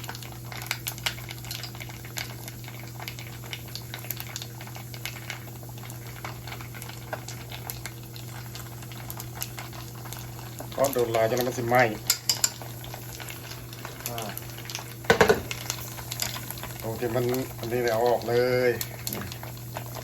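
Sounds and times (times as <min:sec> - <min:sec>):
jerky crackling in hot oil: 0:00.0 - 0:20.0.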